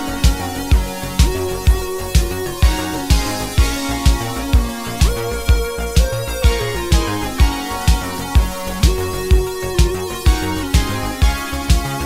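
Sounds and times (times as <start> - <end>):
disco music: 0.0 - 12.0.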